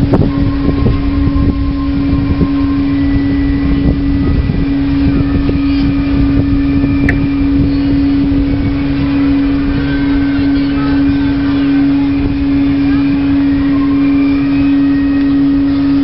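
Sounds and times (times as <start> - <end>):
ship engine humming: 0.0 - 16.0.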